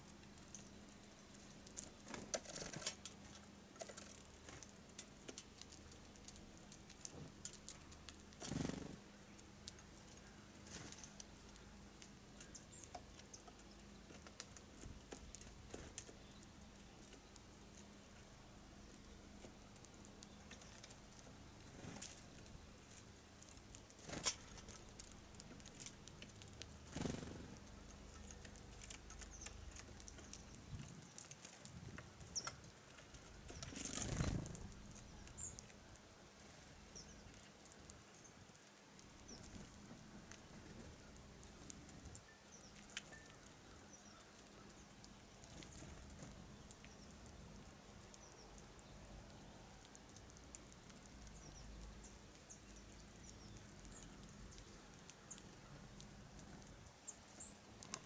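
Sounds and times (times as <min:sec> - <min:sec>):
birds pecking on feeders: 0:00.0 - 0:58.0.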